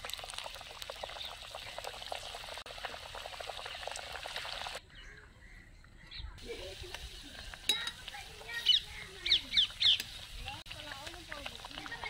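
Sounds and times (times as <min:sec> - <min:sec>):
food sizzling in hot oil: 0:00.0 - 0:04.8, 0:06.4 - 0:12.0.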